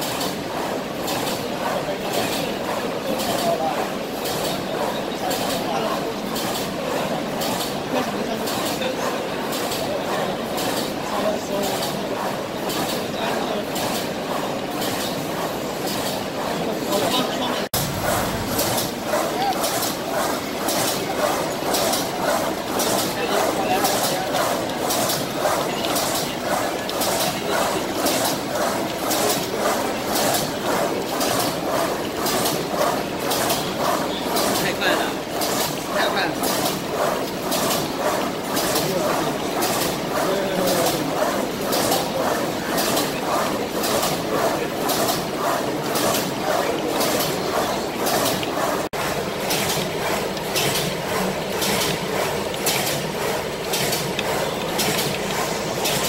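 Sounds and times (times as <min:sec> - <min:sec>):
machine clattering: 0:00.0 - 0:56.0.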